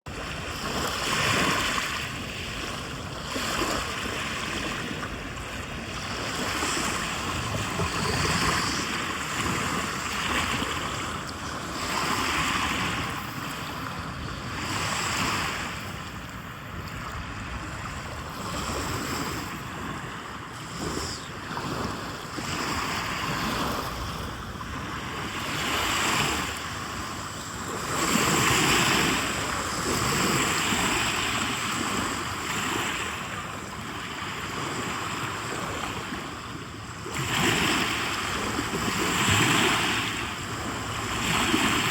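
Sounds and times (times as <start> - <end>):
waves washing onto shore: 0.1 - 41.9.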